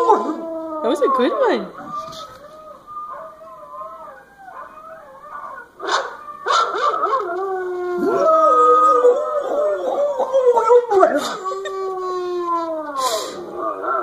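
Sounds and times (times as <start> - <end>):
dog howling: 0.0 - 14.0.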